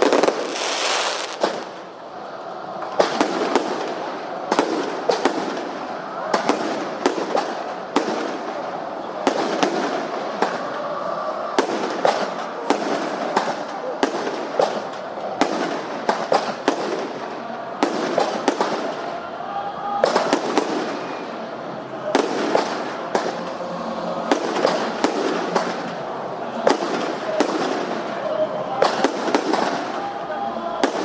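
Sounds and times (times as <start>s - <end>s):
fireworks bangs and crackles: 0.0s - 2.0s, 2.7s - 19.3s, 20.0s - 31.0s.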